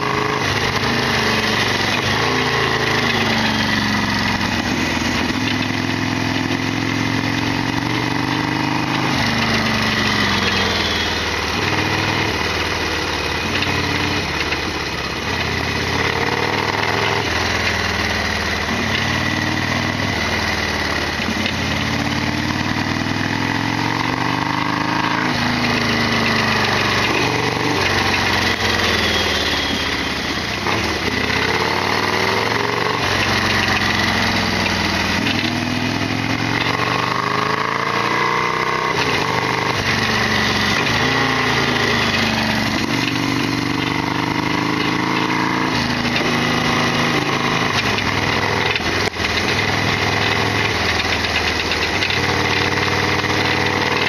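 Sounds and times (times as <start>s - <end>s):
motorcycle engine riding: 0.0s - 54.0s.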